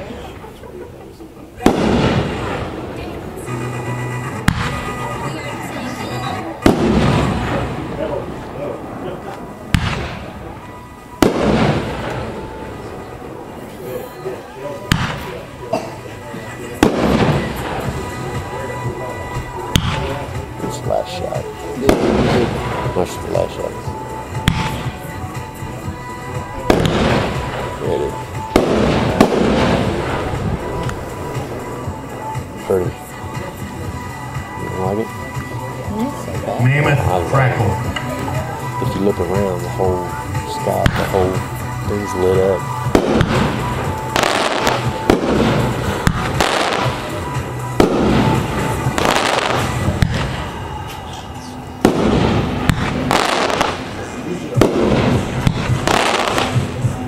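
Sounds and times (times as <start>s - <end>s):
firework crackle: 1.5s - 57.0s
firework bangs: 1.6s - 57.0s.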